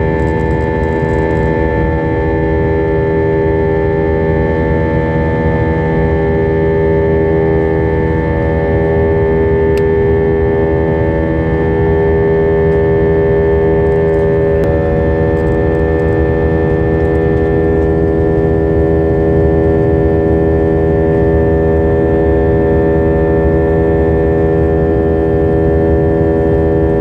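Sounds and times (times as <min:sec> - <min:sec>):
airliner engines rumbling: 0:00.0 - 0:27.0.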